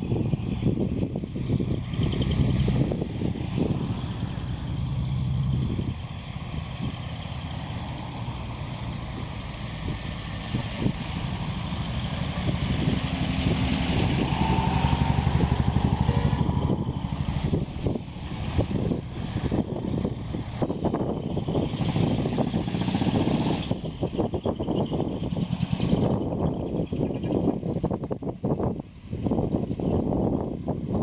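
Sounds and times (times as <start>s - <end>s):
truck engines running: 0.0s - 31.0s
wind buffeting microphone: 0.0s - 31.0s.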